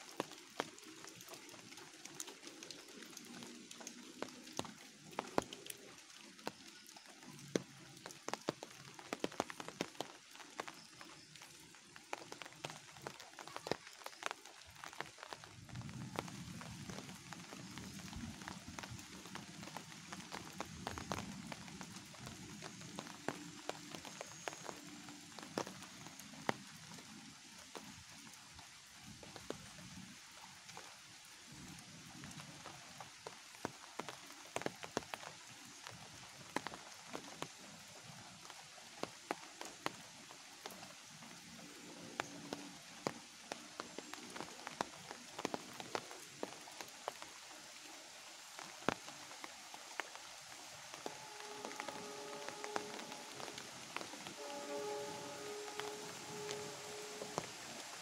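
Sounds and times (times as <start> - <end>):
light rain hiss: 0.0 - 58.0
raindrops ticking: 0.0 - 58.0.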